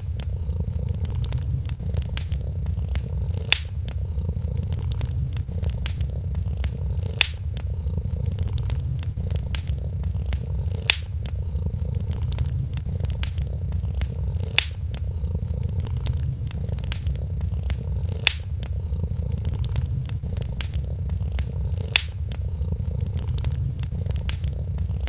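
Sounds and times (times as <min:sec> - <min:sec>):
cat purring: 0:00.0 - 0:25.0
fire pops: 0:00.0 - 0:25.0
wood fire crackling: 0:00.0 - 0:25.0.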